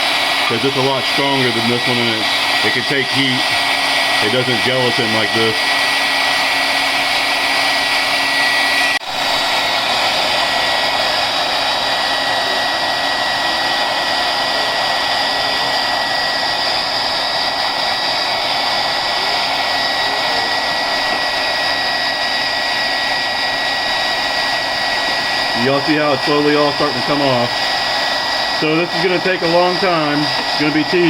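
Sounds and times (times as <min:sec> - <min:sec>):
hair dryer running with whine: 0:00.0 - 0:31.0.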